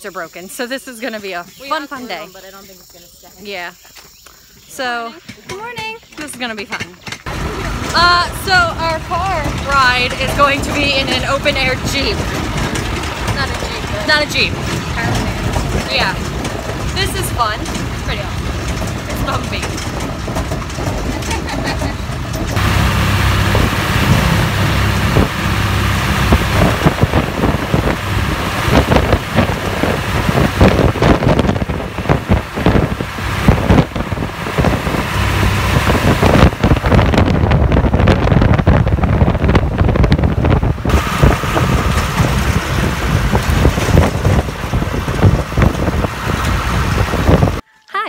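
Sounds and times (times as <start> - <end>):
truck engine rumble: 0.0 - 48.0
wind buffeting microphone: 4.6 - 47.6
rattling jolts: 5.2 - 37.6, 40.6 - 47.6.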